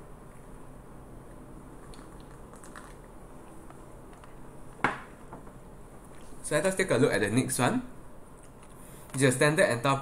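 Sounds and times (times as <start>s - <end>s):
microphone hiss and hum: 0.0s - 10.0s.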